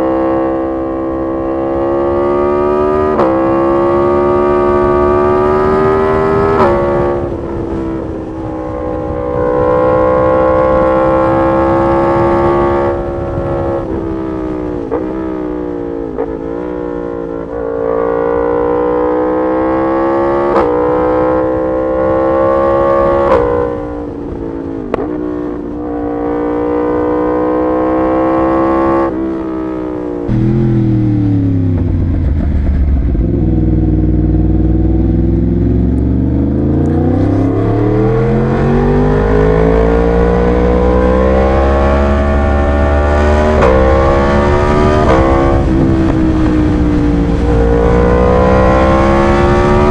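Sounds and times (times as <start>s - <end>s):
motorcycle engine revving through gears: 0.0s - 49.9s.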